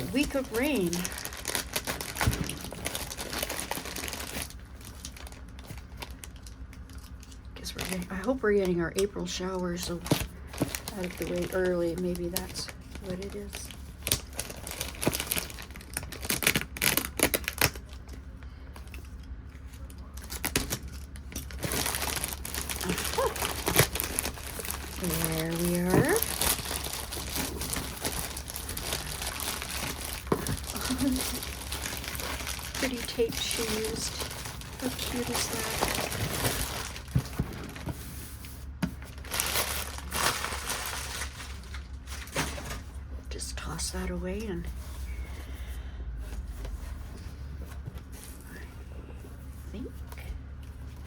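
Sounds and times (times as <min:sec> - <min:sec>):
packaging rustling: 0:00.0 - 0:08.1, 0:09.9 - 0:43.0.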